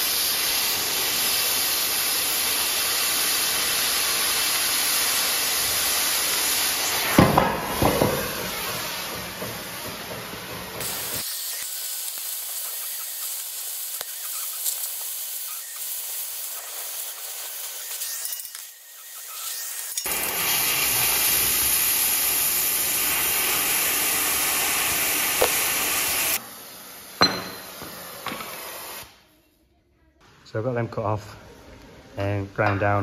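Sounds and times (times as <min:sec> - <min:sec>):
gas cutting torch hissing: 0:00.0 - 0:29.2.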